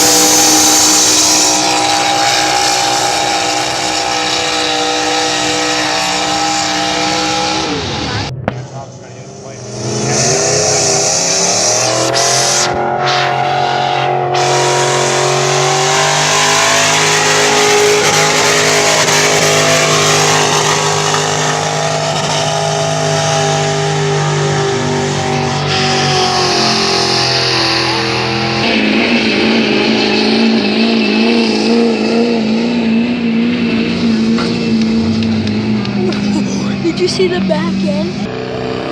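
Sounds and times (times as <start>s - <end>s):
truck engine revving high: 0.0s - 38.9s.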